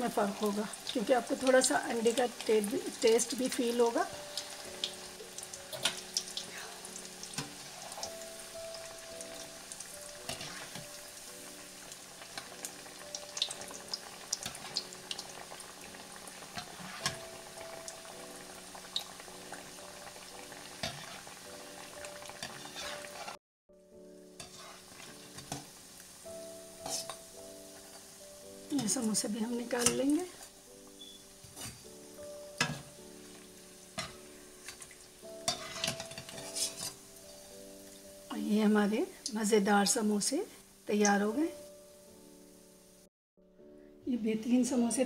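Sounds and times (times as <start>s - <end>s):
deep-frying in hot oil: 0.0s - 43.1s.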